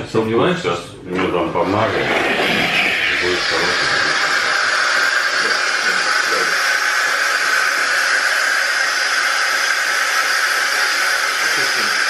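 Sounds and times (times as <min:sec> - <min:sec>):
loud steady hiss: 0:01.7 - 0:12.0.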